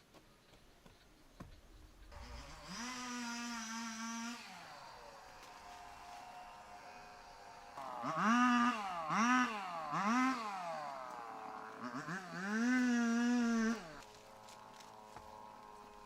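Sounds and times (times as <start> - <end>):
motorbike engine revving: 2.1 - 16.0.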